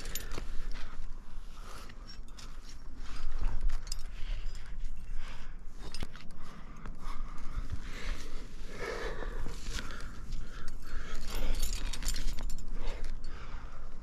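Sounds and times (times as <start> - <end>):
metal climbing gear clinking: 0.0 - 14.0
person breathing hard: 0.0 - 14.0.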